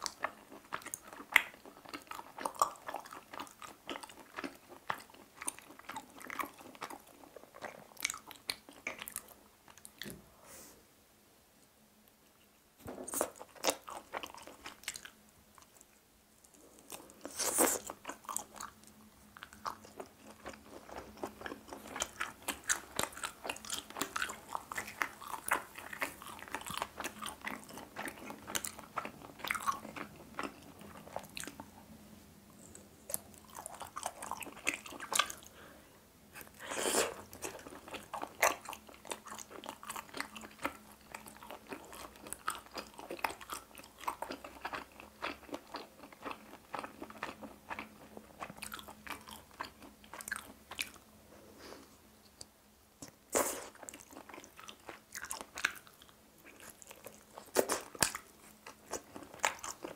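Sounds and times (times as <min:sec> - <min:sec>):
person chewing meat: 0:00.0 - 0:10.1, 0:12.9 - 0:15.9, 0:16.5 - 0:31.7, 0:32.6 - 0:35.7, 0:36.4 - 0:51.0, 0:53.0 - 0:59.9.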